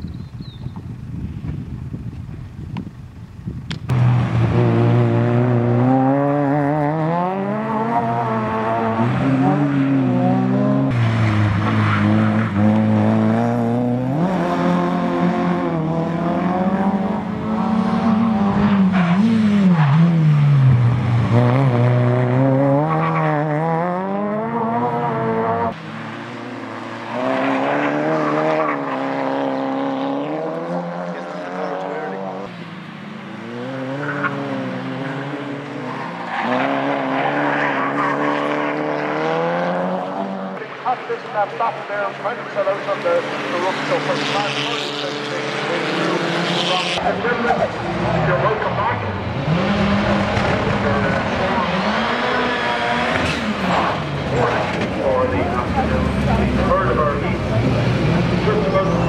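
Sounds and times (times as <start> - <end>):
race car engines revving hard: 3.8 - 59.0.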